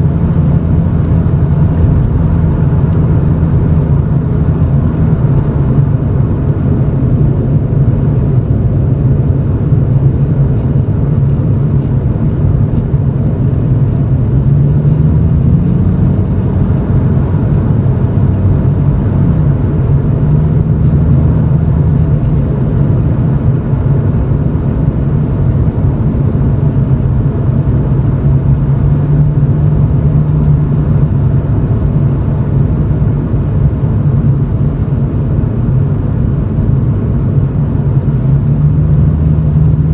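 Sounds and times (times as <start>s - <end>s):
car exhaust drone in cabin: 0.0s - 39.9s.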